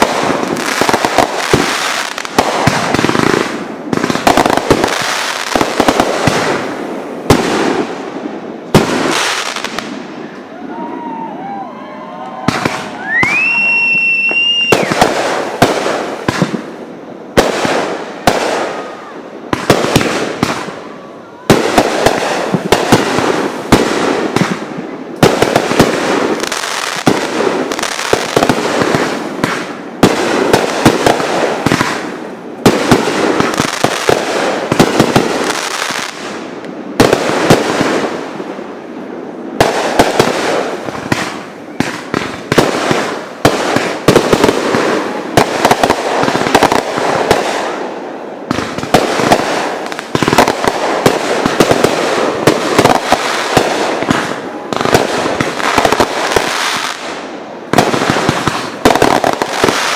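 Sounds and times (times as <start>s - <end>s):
fireworks bursting: 0.0s - 59.9s
fireworks crackling: 0.0s - 59.9s.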